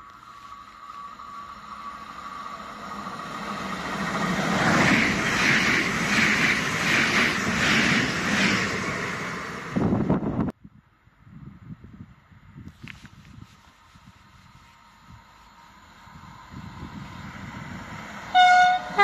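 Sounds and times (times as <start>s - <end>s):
electric train passing at speed: 0.0s - 19.0s.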